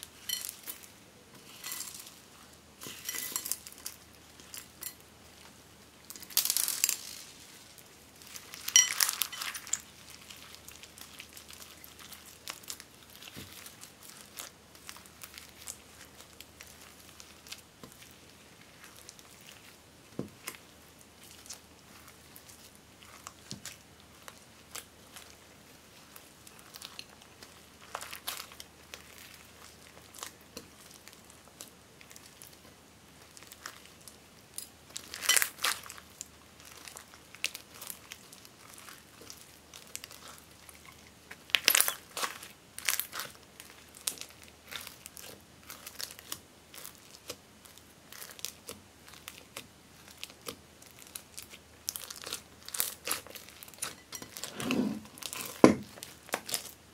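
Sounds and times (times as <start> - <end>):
slime crackling and crunching: 0.0 - 56.9.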